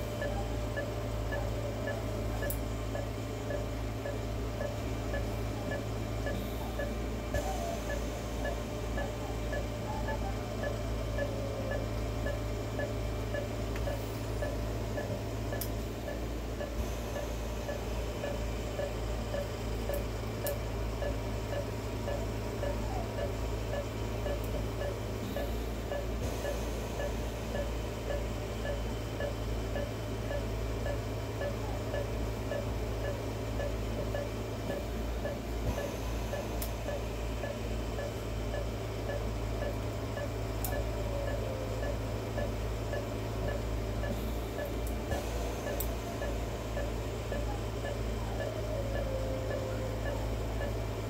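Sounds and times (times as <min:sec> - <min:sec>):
low steady hum: 0:00.0 - 0:51.0
patient monitor beeping: 0:00.0 - 0:51.0.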